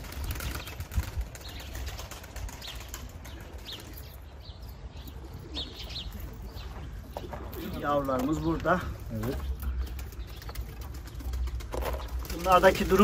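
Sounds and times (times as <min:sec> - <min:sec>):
pigeons cooing softly: 0:00.0 - 0:13.0.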